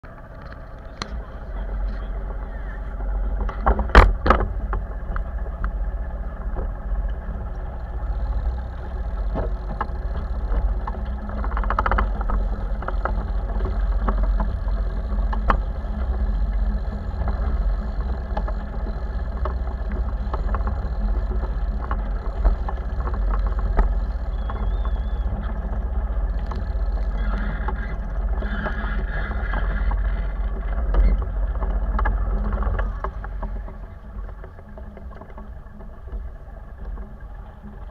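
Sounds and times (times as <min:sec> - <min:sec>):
wind rumbling on microphone: 0:00.0 - 0:37.9.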